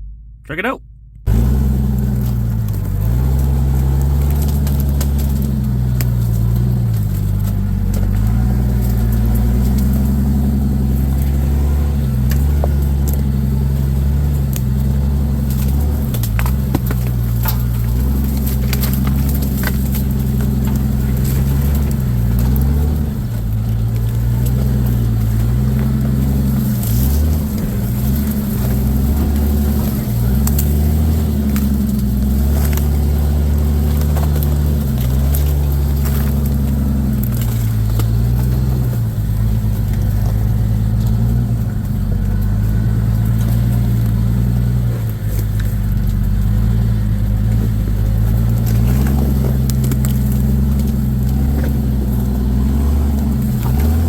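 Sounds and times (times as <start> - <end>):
off-road engine at low revs: 0.0 - 54.0.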